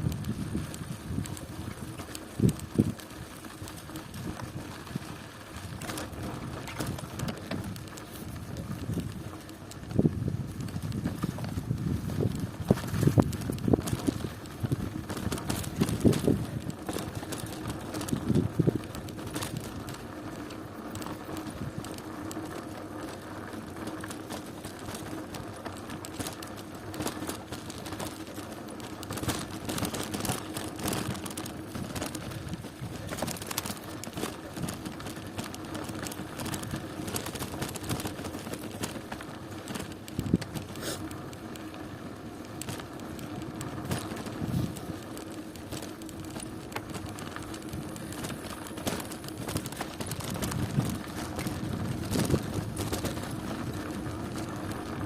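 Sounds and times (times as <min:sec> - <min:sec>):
bicycle clicks and rattles: 0:00.0 - 0:55.0
bicycle rolling on rough road: 0:00.0 - 0:55.0.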